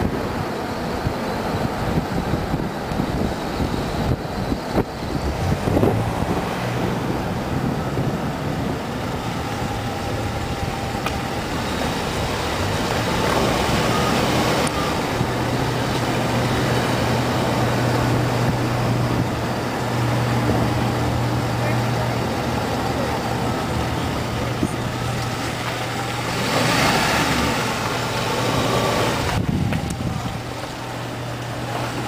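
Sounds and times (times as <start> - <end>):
car engine hum: 0.0 - 32.0
tyre and road noise: 0.0 - 32.0.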